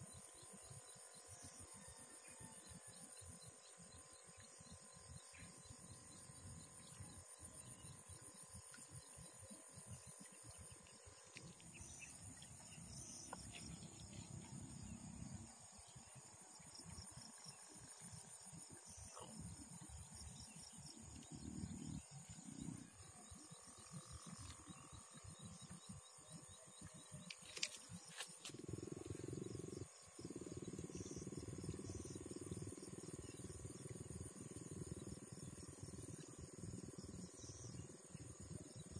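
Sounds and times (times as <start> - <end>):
faint high insect buzz: 0.0 - 38.9.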